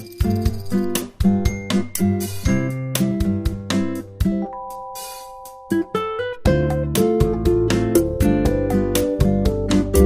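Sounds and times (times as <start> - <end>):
light instrumental music: 0.0 - 10.0.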